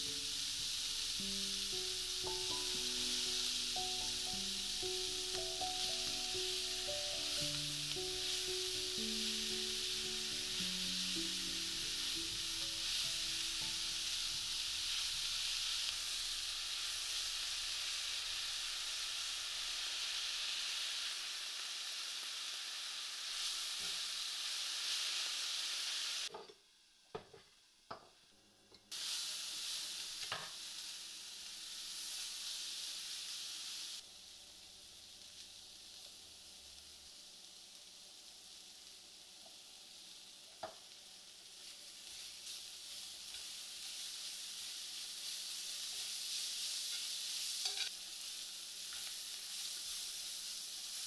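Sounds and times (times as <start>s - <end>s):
vegetables sizzling in frying pan: 0.0s - 28.3s, 28.9s - 51.0s.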